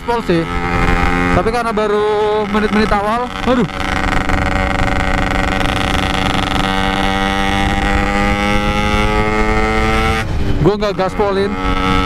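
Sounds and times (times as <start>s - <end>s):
two-stroke motorcycle engine: 0.0s - 12.0s
wind rumbling on microphone: 0.0s - 12.0s.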